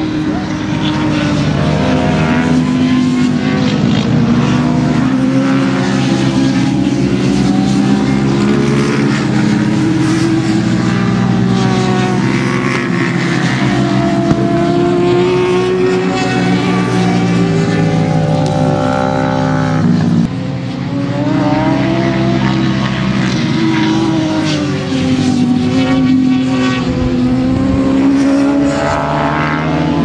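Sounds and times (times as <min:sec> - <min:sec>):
racing motorcycles engines revving: 0:00.0 - 0:30.0.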